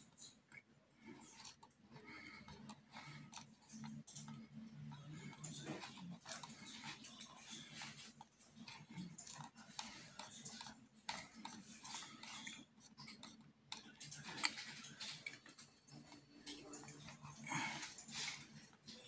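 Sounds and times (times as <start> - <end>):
computer mouse clicking: 0.0 - 17.4.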